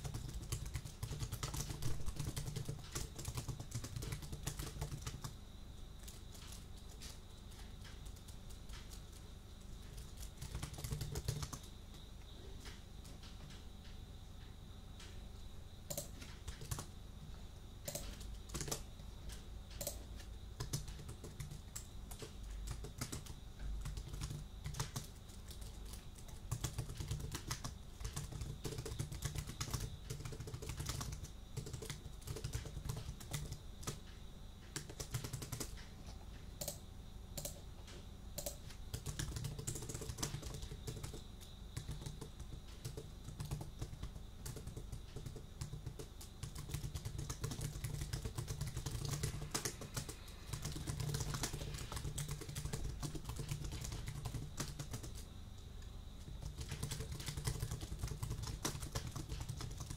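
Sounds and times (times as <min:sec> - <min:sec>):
typing on computer keyboard: 0:00.0 - 0:14.0, 0:15.9 - 0:16.9, 0:17.8 - 0:36.0, 0:36.6 - 0:36.8, 0:37.4 - 0:37.6, 0:38.4 - 0:55.3, 0:56.2 - 0:59.9.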